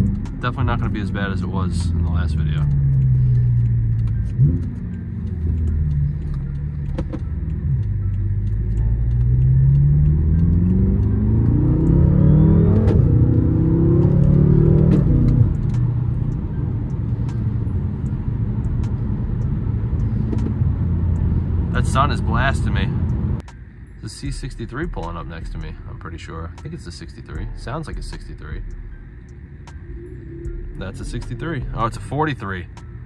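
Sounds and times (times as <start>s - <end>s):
car engine accelerating: 0.0s - 23.5s, 24.3s - 33.0s.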